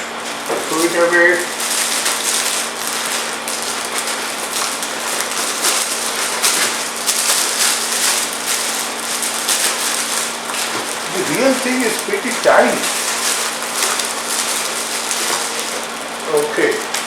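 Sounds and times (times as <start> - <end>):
cardboard and styrofoam rustling: 0.0 - 17.0.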